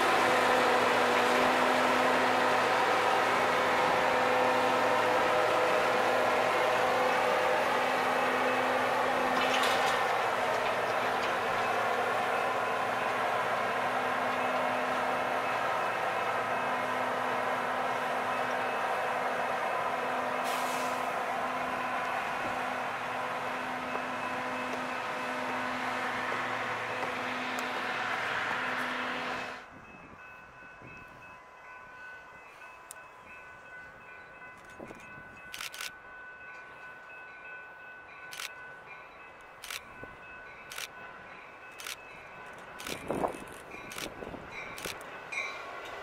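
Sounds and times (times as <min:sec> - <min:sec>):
train rolling past: 0:00.0 - 0:46.0.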